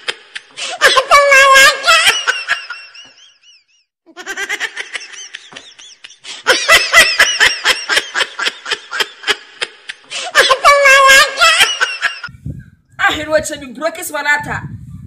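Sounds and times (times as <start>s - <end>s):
hearty laughing: 0.0s - 12.3s
high wavering laugh: 0.0s - 12.3s.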